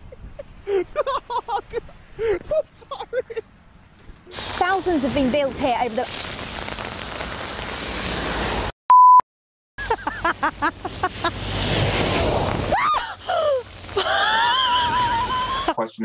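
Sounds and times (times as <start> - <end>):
wind and rain on microphone: 0.0 - 8.7, 10.7 - 15.8.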